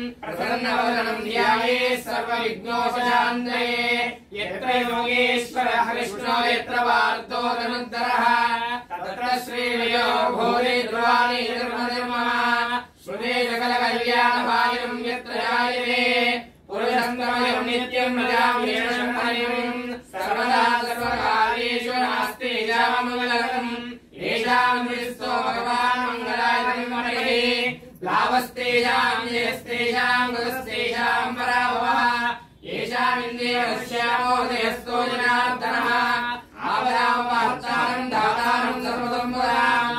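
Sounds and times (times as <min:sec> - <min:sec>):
person chanting mantras: 0:00.0 - 0:39.9.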